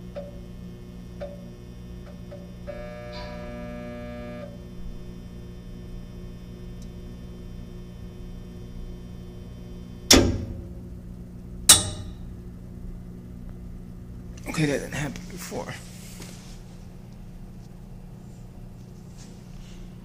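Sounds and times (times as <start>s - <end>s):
electrical buzz of heater: 0.0s - 20.0s.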